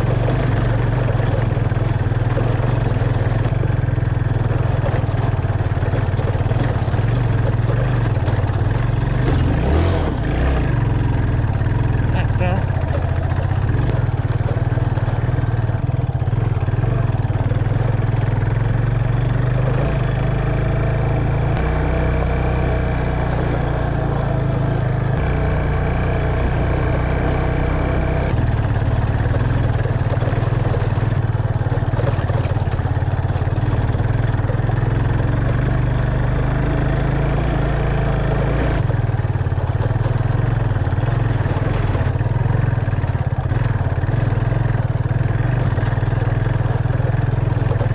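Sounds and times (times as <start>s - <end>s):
motorcycle engine droning: 0.0s - 47.9s.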